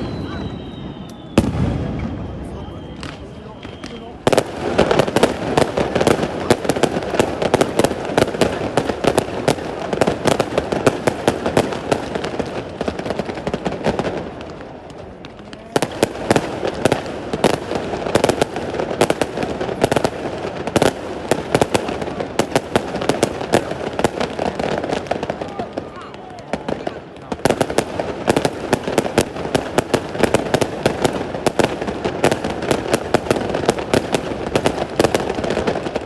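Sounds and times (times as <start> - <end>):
fireworks crackling and banging: 0.0 - 36.0.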